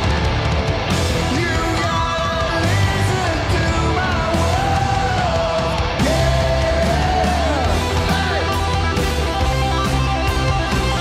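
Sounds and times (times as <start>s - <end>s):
bass: 0.0s - 11.0s
distorted electric guitar: 0.0s - 11.0s
drums: 0.0s - 11.0s
man singing rock: 0.0s - 11.0s.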